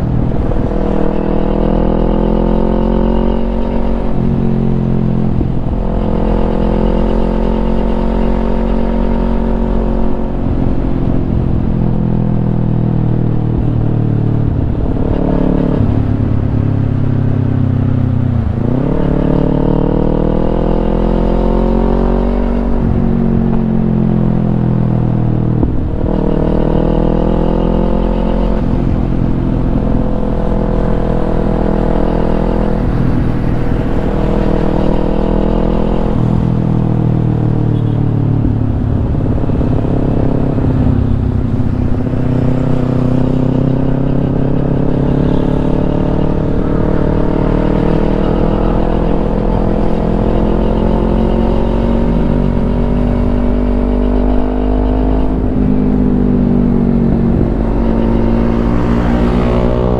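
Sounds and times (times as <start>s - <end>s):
motorcycle engine revving through gears: 0.0s - 59.9s.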